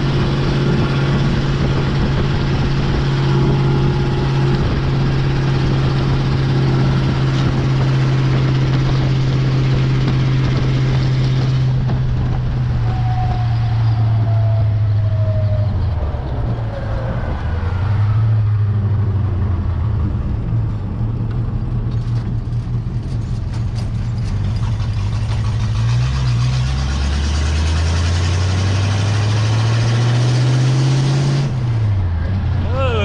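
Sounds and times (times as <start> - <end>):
truck engine accelerating: 0.0 - 33.0.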